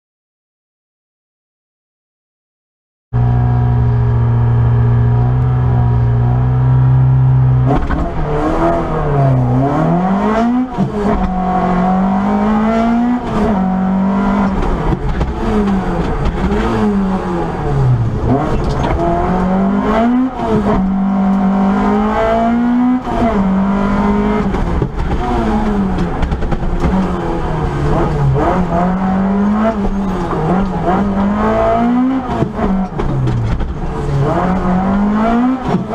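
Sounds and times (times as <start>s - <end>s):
rally car engine revving: 3.2s - 35.9s.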